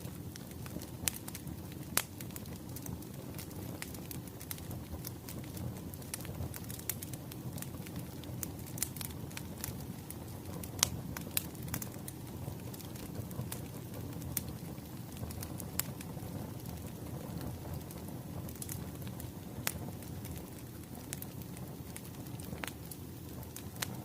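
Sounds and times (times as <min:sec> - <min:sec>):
low rumble of burning logs: 0:00.0 - 0:24.0
wood fire crackling: 0:00.0 - 0:24.0.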